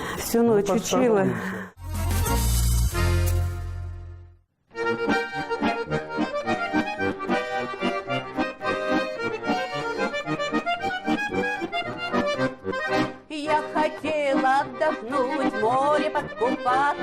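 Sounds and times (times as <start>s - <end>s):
accordion playing: 1.8s - 17.0s.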